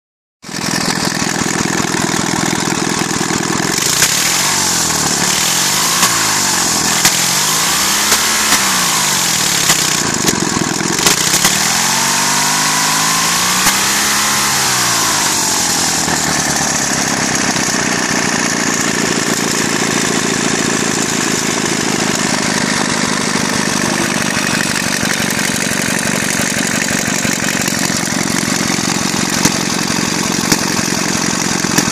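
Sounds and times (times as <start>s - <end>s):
engine revving and idling: 0.5s - 31.9s.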